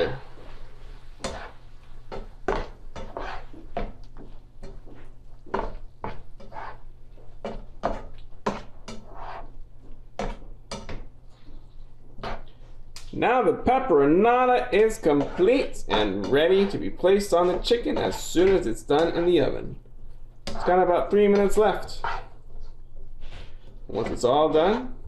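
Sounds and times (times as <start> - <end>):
utensil scraping a skillet: 0.0 - 12.7, 14.5 - 19.6, 20.4 - 24.3.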